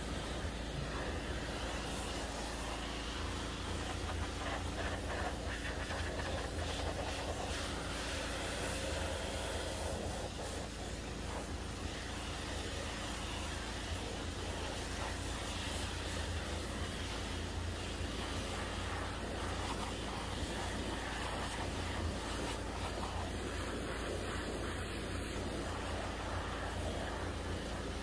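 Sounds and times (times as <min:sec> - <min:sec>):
pressure washer humming: 0:00.0 - 0:28.0
water jet hissing on metal: 0:00.0 - 0:28.0.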